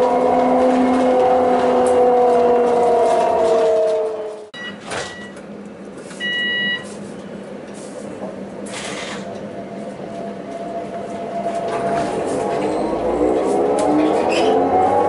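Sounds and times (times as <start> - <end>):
tram electric motors whining: 0.0 - 15.0.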